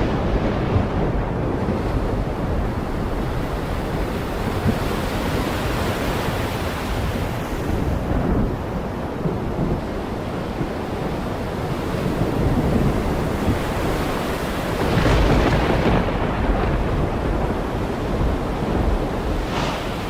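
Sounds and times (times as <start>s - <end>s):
heavy rain pouring: 0.0s - 6.4s, 7.0s - 20.0s.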